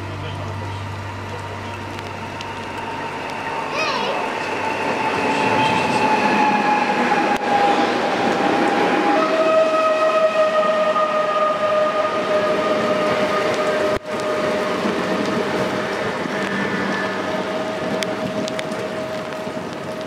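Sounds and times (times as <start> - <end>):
electric train traction whine: 0.0 - 20.0
heavy rain: 0.0 - 20.0
rush of train running: 0.0 - 20.0.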